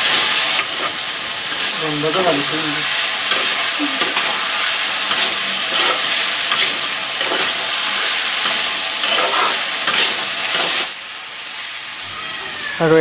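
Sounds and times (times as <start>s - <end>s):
spatula scraping pan: 0.0s - 10.9s
chicken sizzling in oil: 0.0s - 13.0s.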